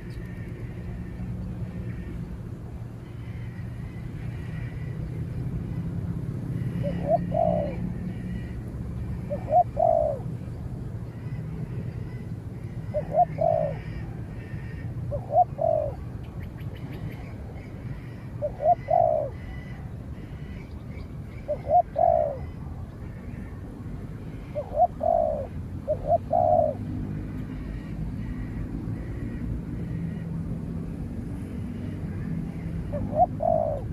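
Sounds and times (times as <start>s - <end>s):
doves cooing: 3.0s - 10.4s, 11.0s - 16.1s, 16.9s - 23.6s, 24.3s - 30.4s, 31.0s - 33.9s.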